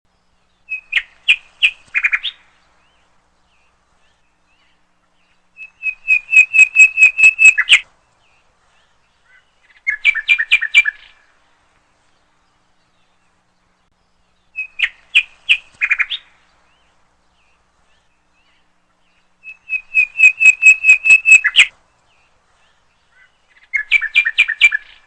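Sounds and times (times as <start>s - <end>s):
small bird chirping: 0.1s - 11.4s, 12.0s - 25.0s.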